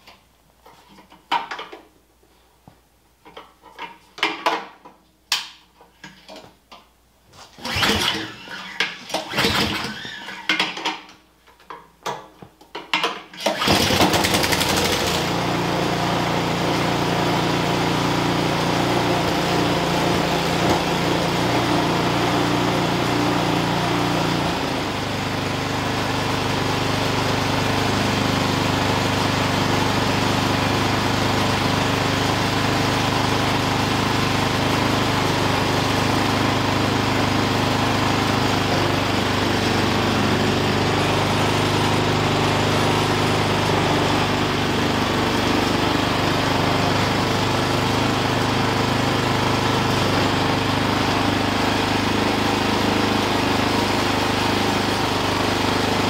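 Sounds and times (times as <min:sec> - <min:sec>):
snowblower engine running: 0:07.6 - 0:10.5, 0:13.4 - 0:56.0.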